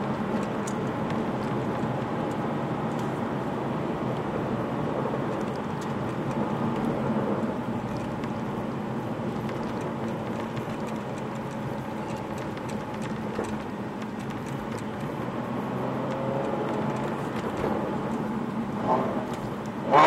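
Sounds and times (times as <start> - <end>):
car engine cruising: 0.0 - 20.0
tyre and road noise: 0.0 - 20.0.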